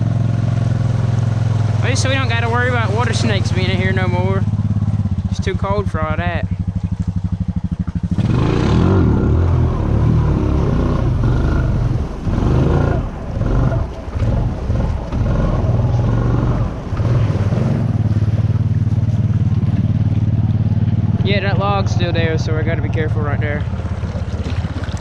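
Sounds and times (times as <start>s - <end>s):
atv engine revving under load: 0.0s - 25.0s.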